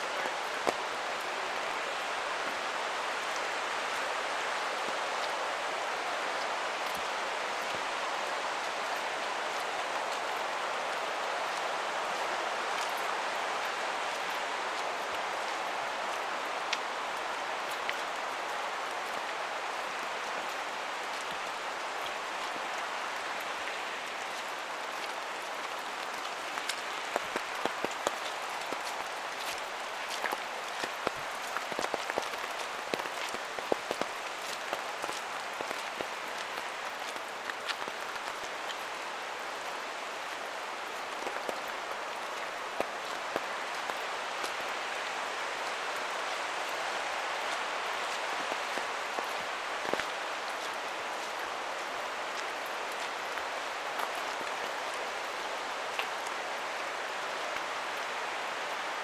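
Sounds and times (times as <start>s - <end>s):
rain hiss: 0.0s - 59.0s
raindrops hitting close by: 0.0s - 59.0s.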